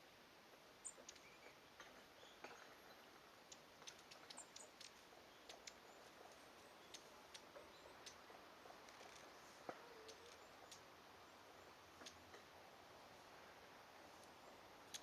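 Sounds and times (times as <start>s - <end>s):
quiet hiss: 0.0s - 15.0s.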